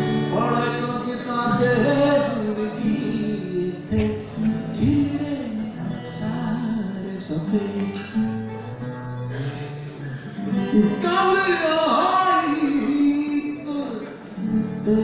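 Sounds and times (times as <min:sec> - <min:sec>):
acoustic guitar strumming: 0:00.0 - 0:15.0
man singing: 0:00.0 - 0:15.0.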